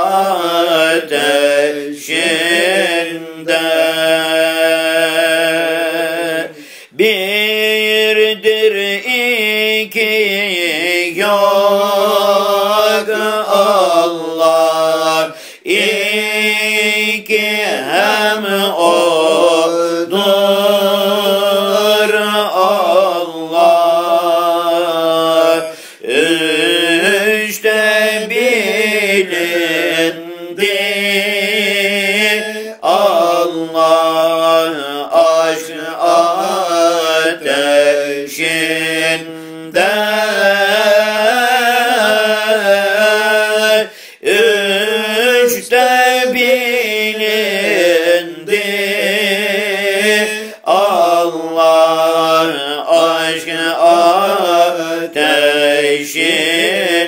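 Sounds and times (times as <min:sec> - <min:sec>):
person chanting a hymn: 0:00.0 - 0:57.0.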